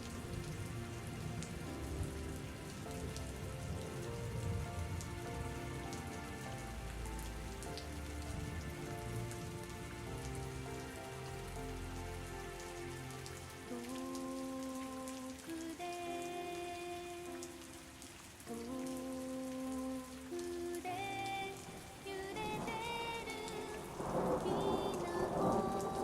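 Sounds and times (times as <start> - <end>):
soft instrumental music: 0.0 - 26.0
steady rain: 0.0 - 26.0.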